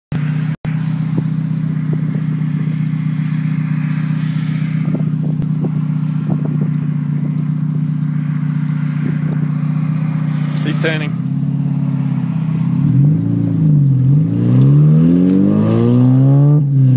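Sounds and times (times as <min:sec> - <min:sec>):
unmuffled car engine running: 0:00.1 - 0:16.9
light ticks: 0:00.2 - 0:15.4.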